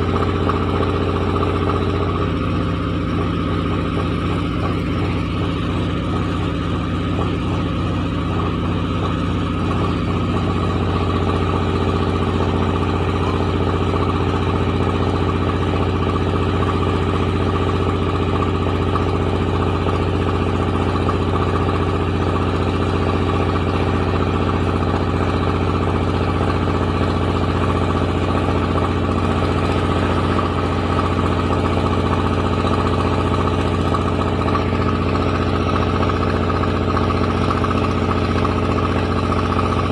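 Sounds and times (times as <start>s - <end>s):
milling machine droning: 0.0s - 39.9s.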